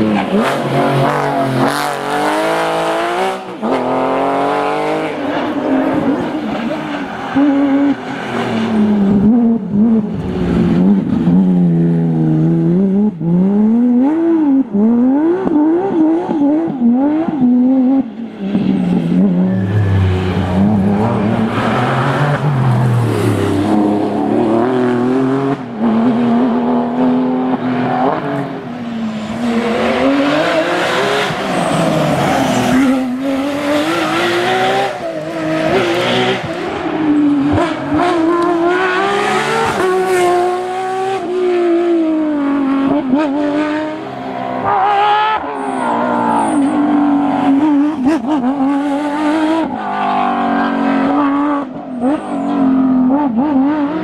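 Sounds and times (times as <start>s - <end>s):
rally car engines revving hard: 0.0s - 54.0s.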